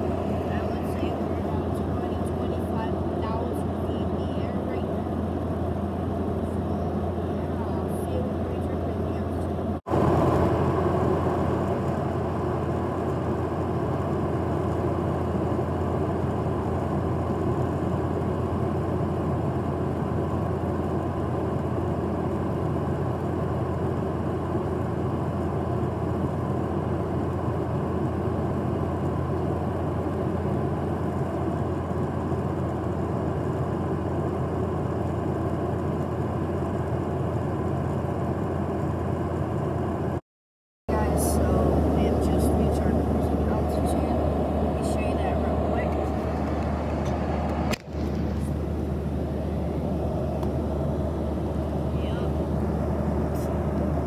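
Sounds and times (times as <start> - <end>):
constant low hum: 0.0 - 40.2, 40.9 - 54.0
jet engines: 0.0 - 40.2, 40.9 - 54.0.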